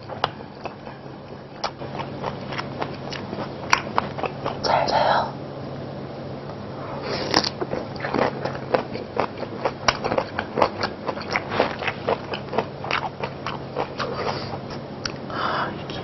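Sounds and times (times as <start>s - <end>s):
person chewing food: 0.0s - 4.6s, 7.0s - 15.2s.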